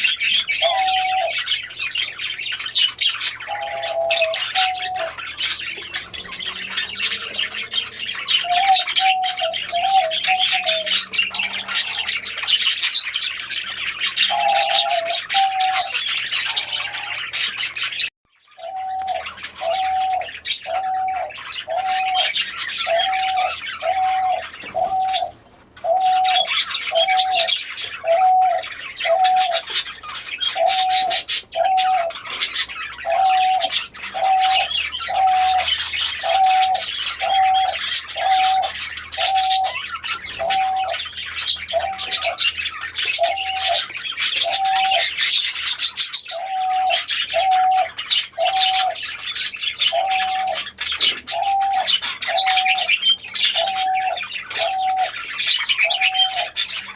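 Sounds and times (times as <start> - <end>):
pigeon cooing: 0.0 - 56.9
small birds chirping: 0.0 - 56.9.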